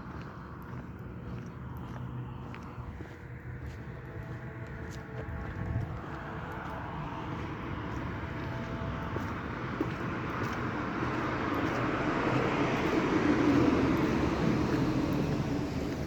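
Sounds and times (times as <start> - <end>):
steady rumbling noise: 0.0 - 16.0.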